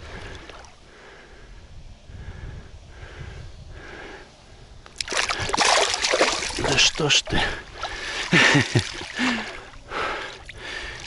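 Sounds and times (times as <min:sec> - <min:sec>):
man breathing: 0:00.0 - 0:05.6, 0:07.3 - 0:11.0.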